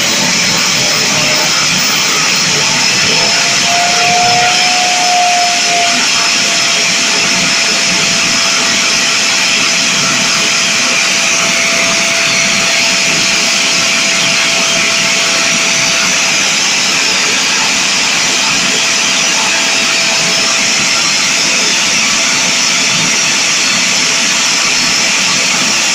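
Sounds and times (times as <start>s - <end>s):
jet engine rushing hiss: 0.0s - 25.9s
thin steady whine: 0.0s - 25.9s.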